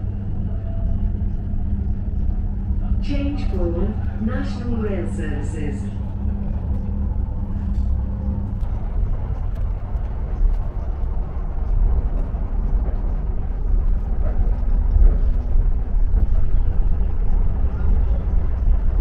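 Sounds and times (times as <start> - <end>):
faint hum: 0.0 - 19.0
train rumbling: 0.0 - 19.0.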